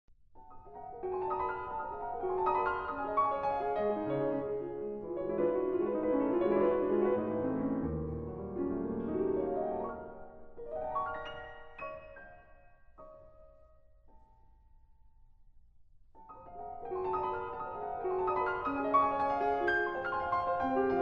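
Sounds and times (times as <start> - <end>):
piano music: 0.4 - 15.2, 16.2 - 21.0.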